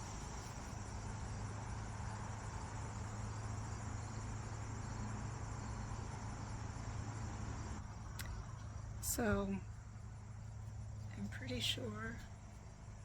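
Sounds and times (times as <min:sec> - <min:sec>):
insects chirring: 0:00.0 - 0:13.0
low steady hum: 0:00.0 - 0:13.0.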